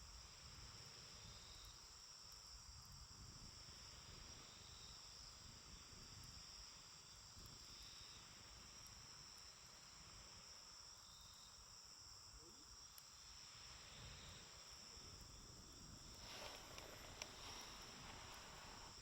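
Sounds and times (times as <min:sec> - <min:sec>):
crickets chirping: 0:00.0 - 0:19.0
rustle: 0:00.0 - 0:19.0.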